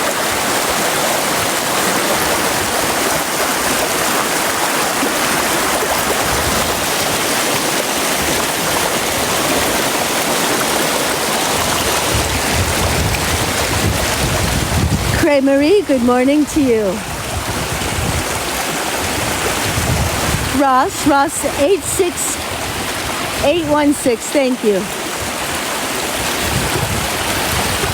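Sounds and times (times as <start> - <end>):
brook water flowing over rocks: 0.0 - 27.9.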